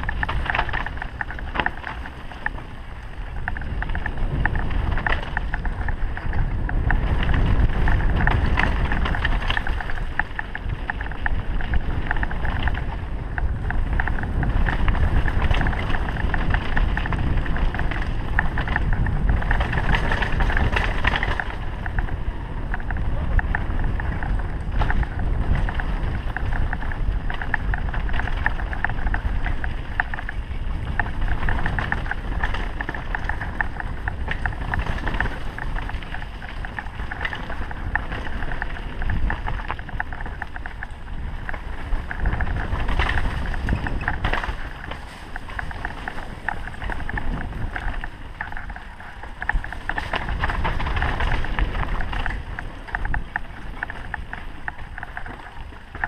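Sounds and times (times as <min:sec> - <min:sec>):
bike rattling: 0:00.0 - 0:56.0
tyres rumbling over dirt: 0:00.0 - 0:56.0
wind buffeting microphone: 0:00.0 - 0:56.0.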